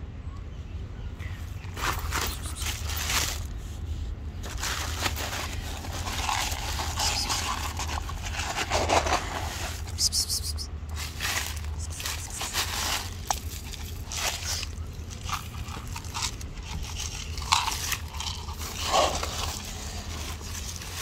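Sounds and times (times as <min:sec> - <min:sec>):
rustling in dry leaves: 0:01.2 - 0:21.0.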